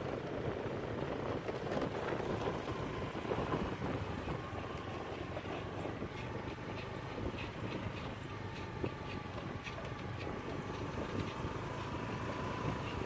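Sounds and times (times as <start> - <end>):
rumbling ride on dirt track: 0.0 - 13.0
wind buffeting microphone: 0.0 - 13.0.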